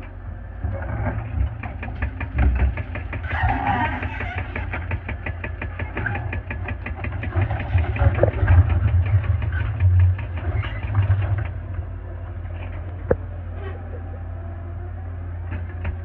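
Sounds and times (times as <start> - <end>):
diesel engine clattering: 0.0 - 16.0.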